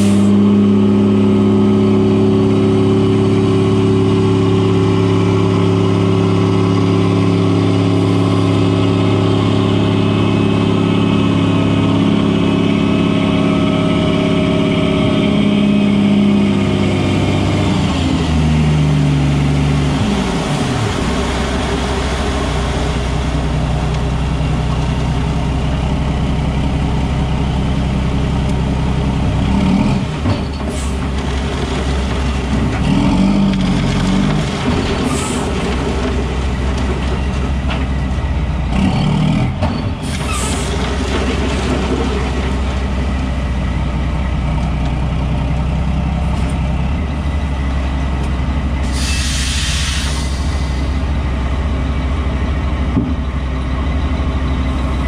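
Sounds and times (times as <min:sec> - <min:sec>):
diesel truck engine revving: 0:00.0 - 0:55.0.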